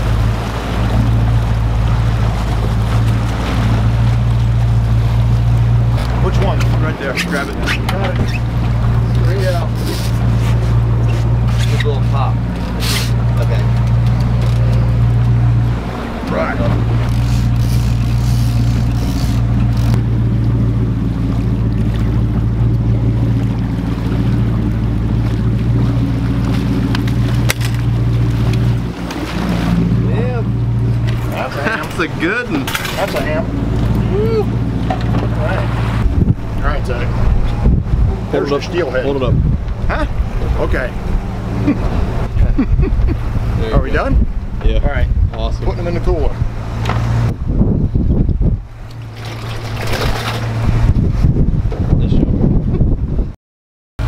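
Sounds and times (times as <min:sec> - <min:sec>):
water wash: 0:00.0 - 0:52.6
boat engine humming: 0:00.0 - 0:53.3
wind: 0:00.0 - 0:53.4.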